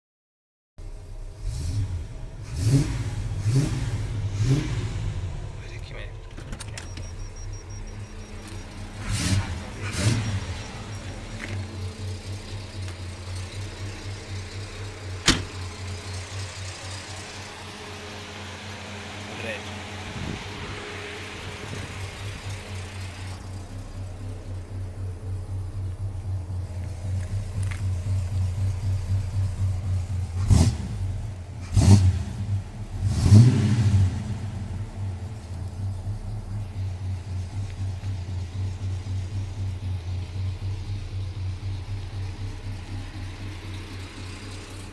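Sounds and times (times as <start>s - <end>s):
engine idling burble: 5.1s - 31.7s, 34.3s - 44.9s.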